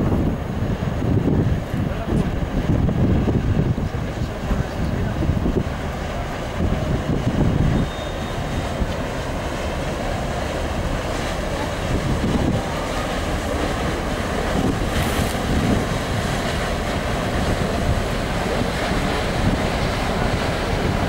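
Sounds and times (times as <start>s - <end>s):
water rushing from ferry wake: 0.0s - 21.0s
wind buffeting microphone: 0.0s - 21.0s.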